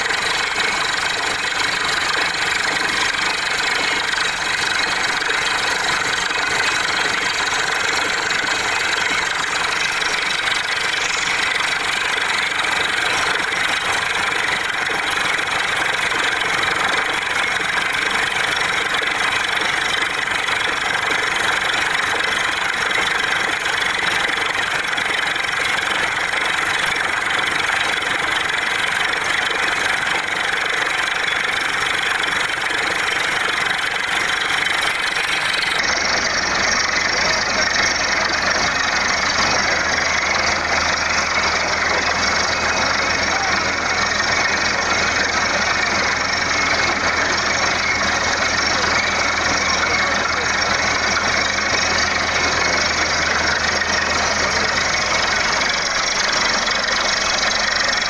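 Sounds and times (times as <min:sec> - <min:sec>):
drilling rig engine droning: 0:00.0 - 0:58.0.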